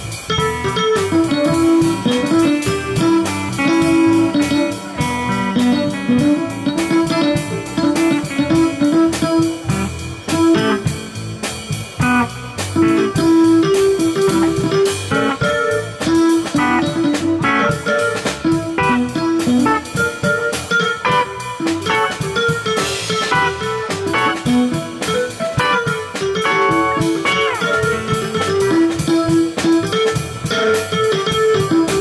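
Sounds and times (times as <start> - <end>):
electric guitar quick plucked notes: 0.2 - 32.0.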